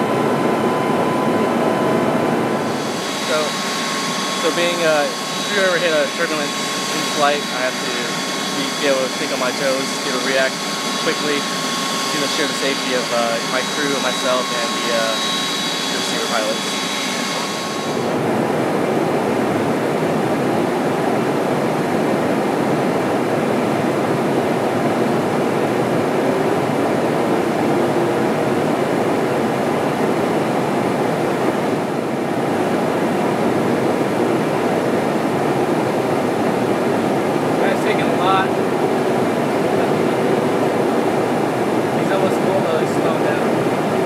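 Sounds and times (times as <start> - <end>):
aircraft airflow and engine roar: 0.0 - 44.0.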